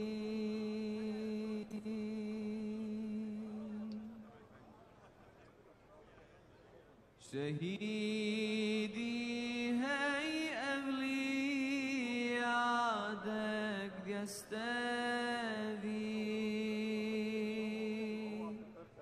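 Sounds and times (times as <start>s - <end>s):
man chanting: 0.0s - 4.2s, 7.2s - 19.0s.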